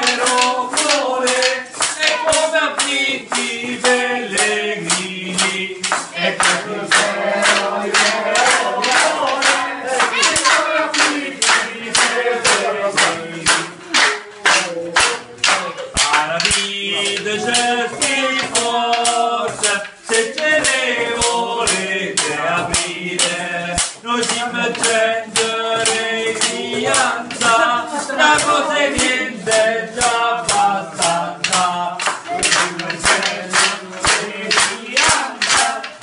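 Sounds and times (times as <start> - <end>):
men singing in unison: 0.0 - 36.0
wooden clappers clacking: 0.0 - 36.0.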